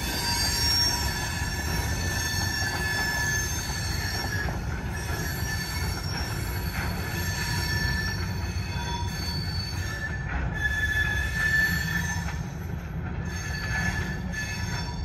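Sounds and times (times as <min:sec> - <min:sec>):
low rumble of moving train: 0:00.0 - 0:15.0
train wheels squealing on rails: 0:00.0 - 0:15.0.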